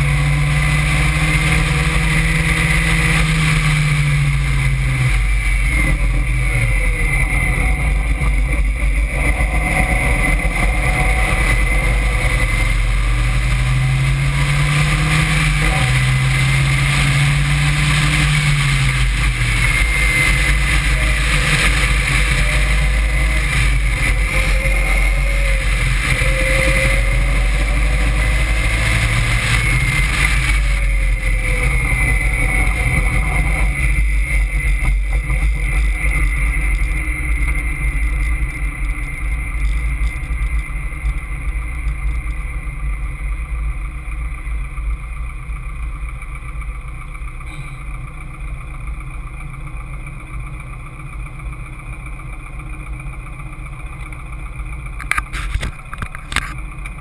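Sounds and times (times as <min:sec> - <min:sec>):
wind rumble: 0:00.0 - 0:46.2
car engine pulling hard: 0:00.0 - 0:57.0.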